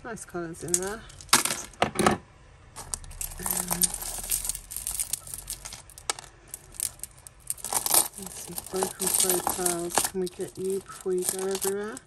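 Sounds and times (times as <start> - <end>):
jewellery and beads clinking: 0.6 - 1.8, 2.8 - 12.0.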